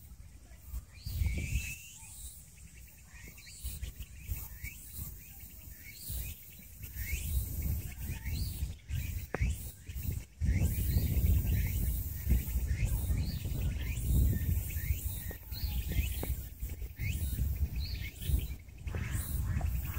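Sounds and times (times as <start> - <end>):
birds chirping: 0.0 - 19.9
faint high outdoor hiss: 0.0 - 19.9.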